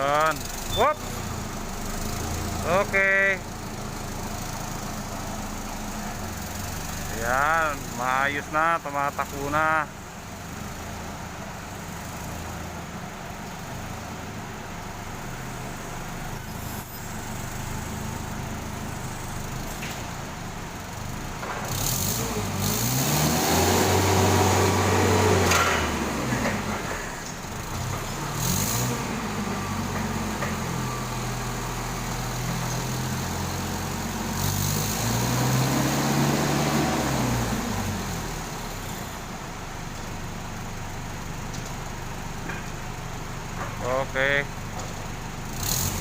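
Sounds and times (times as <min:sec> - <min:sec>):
forklift engine revving: 0:00.0 - 0:39.4, 0:40.4 - 0:46.0.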